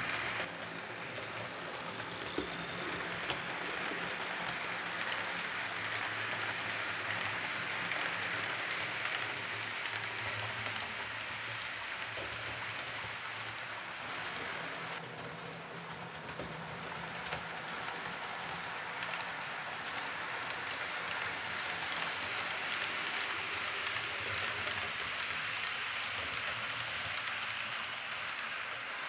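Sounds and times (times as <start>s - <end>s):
model train wheels rolling: 0.0s - 29.0s.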